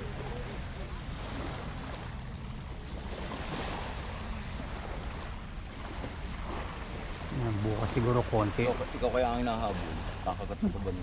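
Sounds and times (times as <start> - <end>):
small waves on sandy beach: 0.0 - 11.0.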